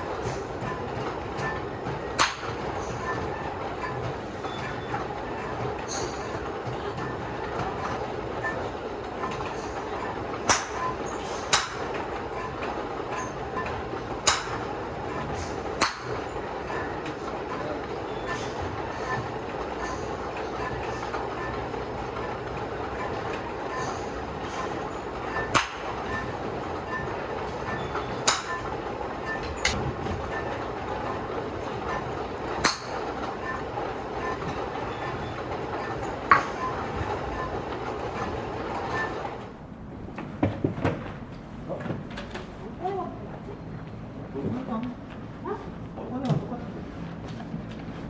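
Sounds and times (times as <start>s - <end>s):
sharp clacks: 0.0s - 39.4s
train rumbling: 0.0s - 48.0s.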